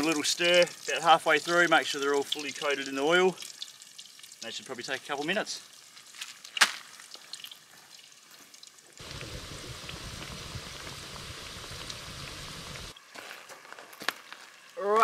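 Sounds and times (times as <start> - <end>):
chips sizzling in hot oil: 0.0 - 13.1, 14.0 - 15.0.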